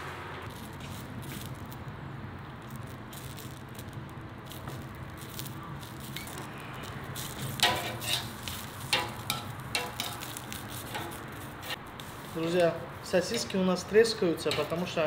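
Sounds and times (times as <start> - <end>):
casings popping: 0.5 - 12.7
sausages sizzling on a grill: 0.5 - 15.0.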